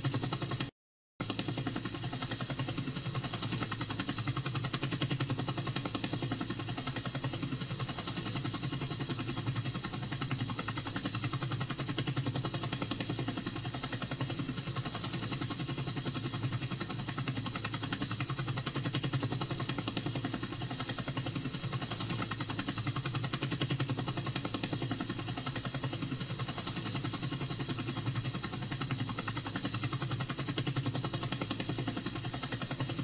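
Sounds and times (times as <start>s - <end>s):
pulsing motor-like hum: 0.0s - 33.0s.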